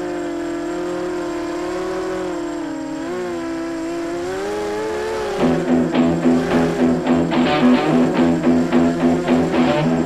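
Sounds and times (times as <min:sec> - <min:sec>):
quadcopter motors whirring: 0:00.0 - 0:10.0.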